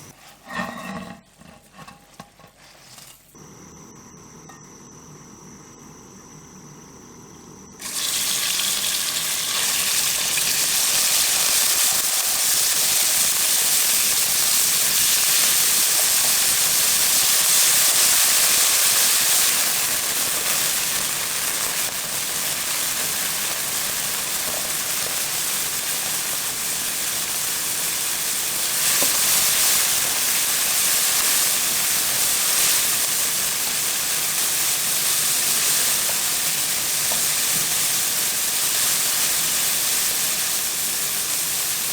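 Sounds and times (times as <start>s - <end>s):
food sizzling in a hot pan: 7.8s - 41.9s.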